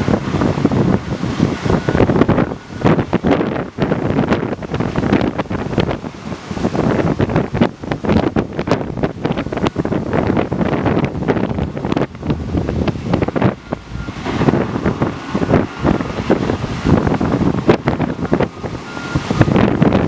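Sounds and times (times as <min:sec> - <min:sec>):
heavy diesel machinery running: 0:00.0 - 0:06.2, 0:09.2 - 0:20.0
wind buffeting microphone: 0:00.0 - 0:20.0.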